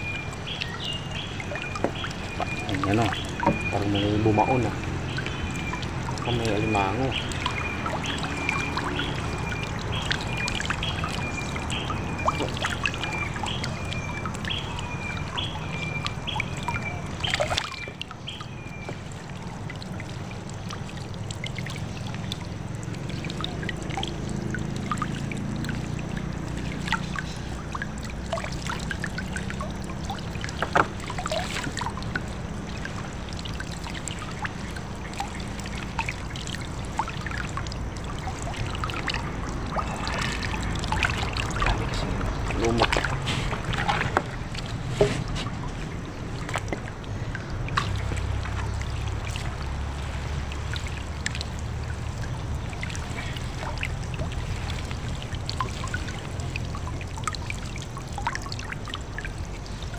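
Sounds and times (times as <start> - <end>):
small water splashes: 0.0 - 59.9
water trickling and dripping: 0.0 - 59.9.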